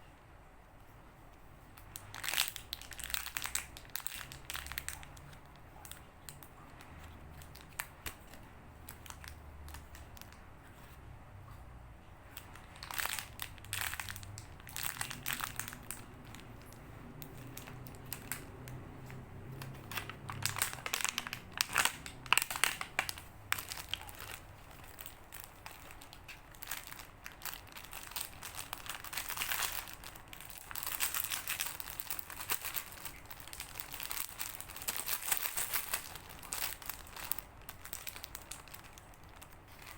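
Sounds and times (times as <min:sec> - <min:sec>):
squishy toys crinkling: 0:01.7 - 0:10.4, 0:12.4 - 0:39.9.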